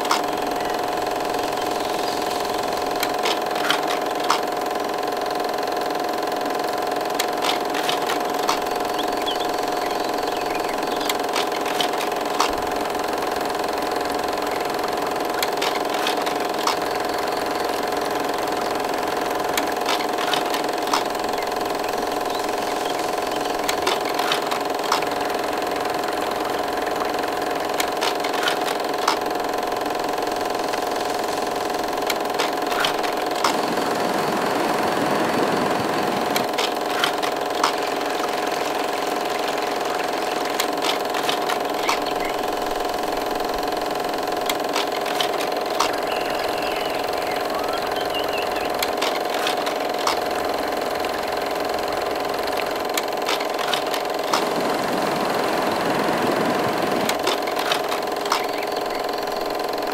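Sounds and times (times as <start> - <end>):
sharp clicks: 0.0 - 5.9, 6.5 - 34.1, 35.6 - 54.8, 56.5 - 59.9
steady mechanical hum: 0.0 - 59.9.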